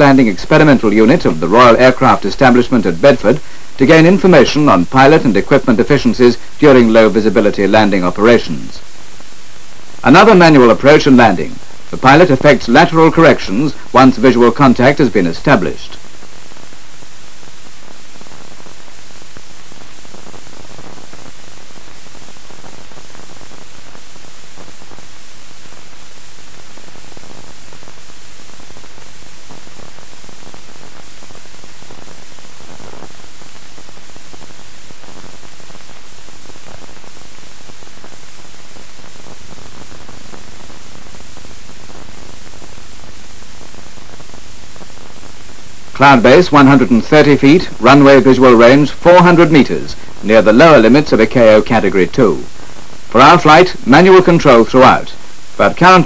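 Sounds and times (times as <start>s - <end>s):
film soundtrack hiss and static: 0.0s - 56.0s.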